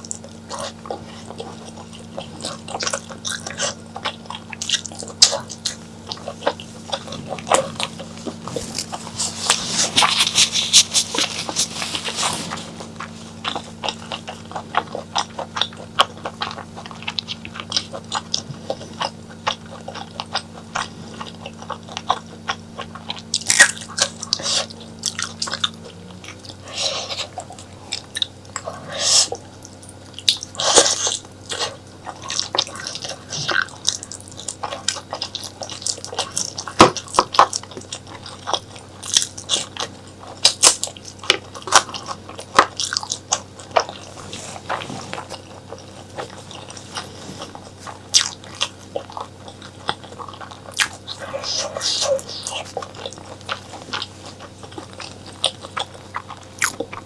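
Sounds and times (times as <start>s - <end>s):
close chewing and biting: 0.0s - 57.0s
steady low hum: 0.0s - 57.0s.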